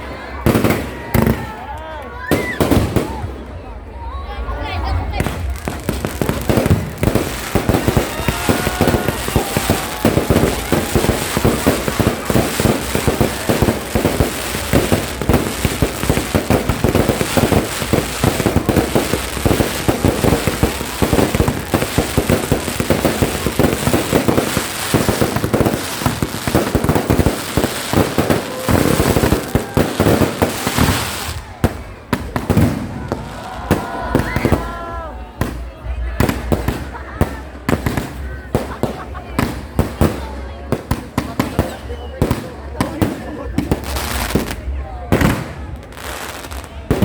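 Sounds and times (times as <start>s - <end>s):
fireworks bangs and crackling pops: 0.0s - 3.6s, 5.0s - 47.0s.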